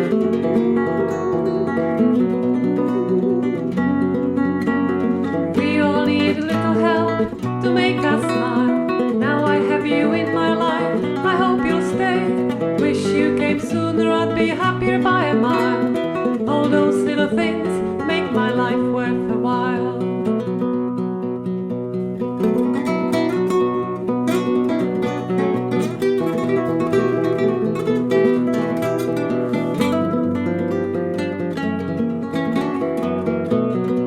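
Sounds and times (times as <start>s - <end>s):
strummed acoustic guitar folk song: 0.0s - 34.0s.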